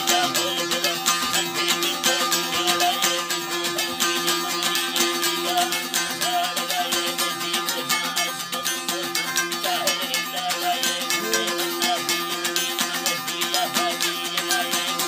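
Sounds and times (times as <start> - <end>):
plucked lutes over a drone: 0.0 - 15.0.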